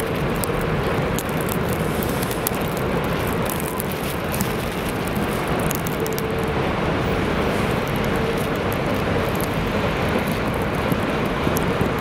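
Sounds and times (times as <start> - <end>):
cars passing on wet pavement: 0.0 - 12.0.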